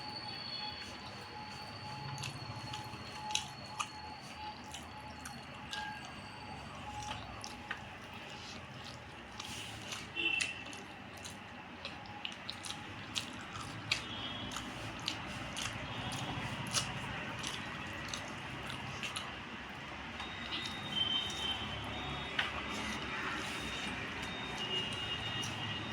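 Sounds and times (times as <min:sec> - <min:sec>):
wet chewing and mouth smacks: 0:00.0 - 0:25.9.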